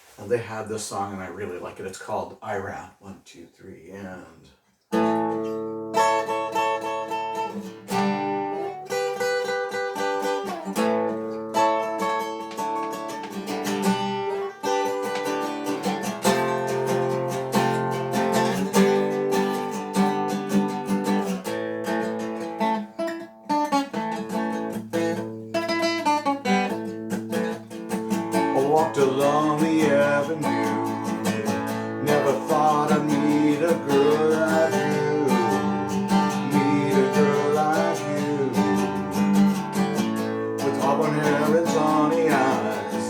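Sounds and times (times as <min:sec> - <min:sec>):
acoustic guitar playing: 0:04.9 - 0:43.0.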